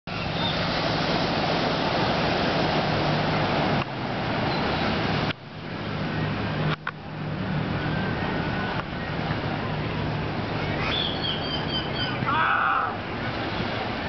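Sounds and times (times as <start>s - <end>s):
surf rushing: 0.1s - 14.0s.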